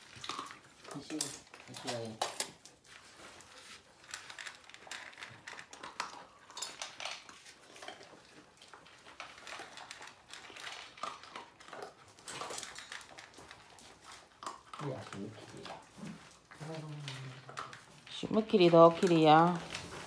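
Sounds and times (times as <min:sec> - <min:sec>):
kibble clinking in metal bowls: 0:00.0 - 0:02.8, 0:04.0 - 0:15.9, 0:16.6 - 0:19.8.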